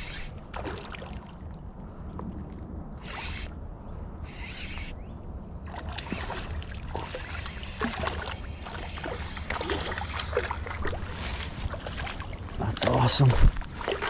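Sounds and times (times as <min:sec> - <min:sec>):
water splashing and sloshing: 0:00.0 - 0:03.6, 0:05.6 - 0:14.0
steady low rumble: 0:00.0 - 0:14.0.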